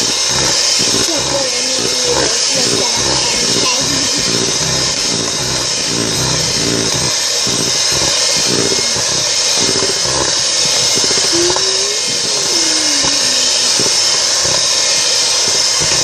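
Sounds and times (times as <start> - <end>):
electric hand mixer whirring: 0.0 - 16.0.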